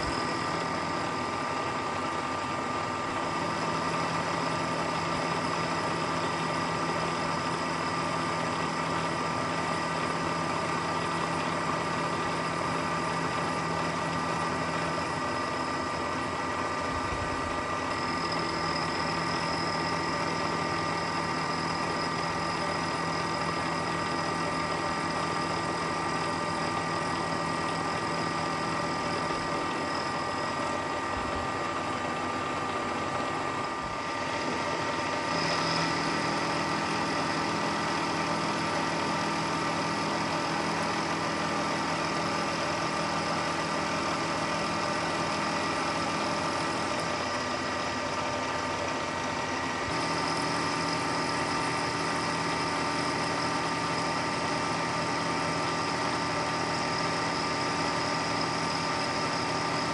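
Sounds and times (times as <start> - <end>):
milling machine cutting metal: 0.0 - 59.9.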